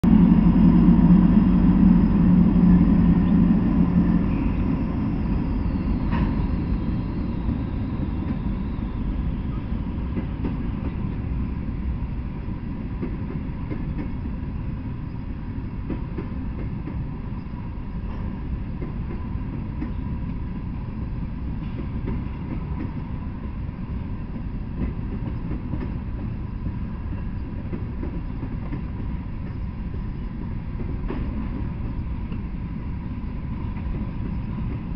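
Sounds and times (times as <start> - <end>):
diesel locomotive engine: 0.0 - 34.9
freight cars rumbling over rails: 0.0 - 34.9.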